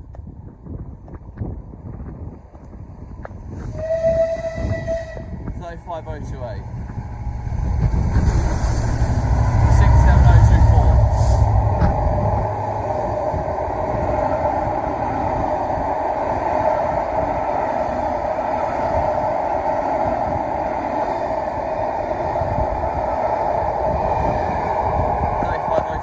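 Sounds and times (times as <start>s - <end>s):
locomotive low rumble: 0.0s - 26.0s
rush of wheels on rail: 0.3s - 26.0s.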